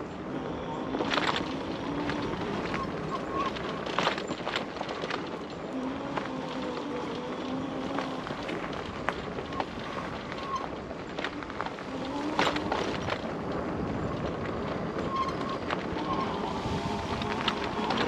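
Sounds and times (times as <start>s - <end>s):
tyre and wind noise: 0.0s - 18.0s
bike rattling clicks and knocks: 0.9s - 18.0s.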